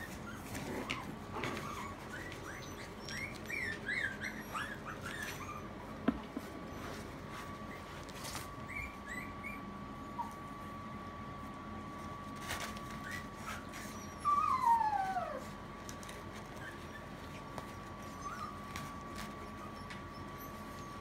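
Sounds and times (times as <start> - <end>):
puppy whimpering: 0.0 - 10.8, 12.2 - 21.0.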